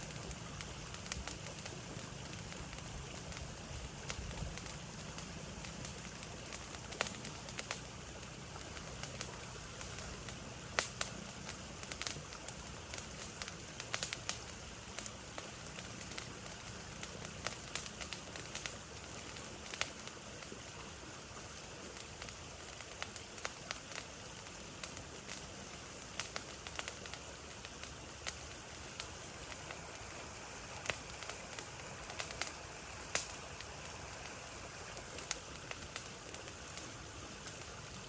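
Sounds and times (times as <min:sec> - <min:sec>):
sharp crackles and pops: 0:00.0 - 0:38.0
steady low hiss: 0:00.0 - 0:38.0.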